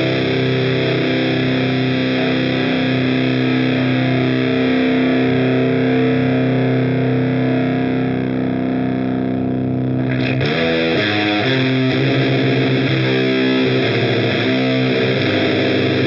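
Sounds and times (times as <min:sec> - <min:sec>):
fuzzy electric guitar chord: 0:00.0 - 0:16.0.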